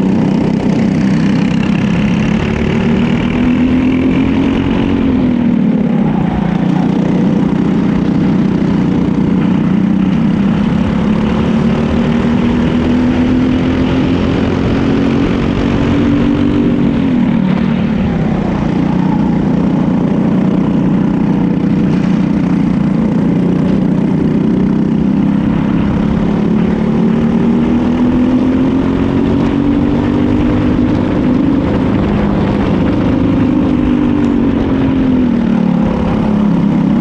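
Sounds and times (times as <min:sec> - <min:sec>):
kart engine running: 0:00.0 - 0:37.0.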